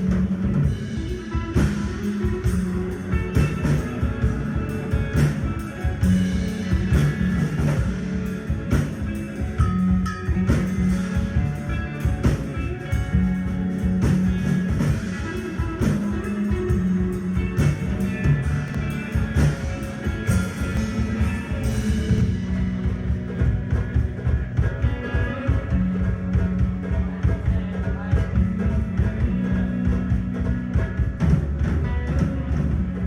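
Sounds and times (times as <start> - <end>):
electric guitar: 0.0 - 33.0
rock band playing: 0.0 - 33.0.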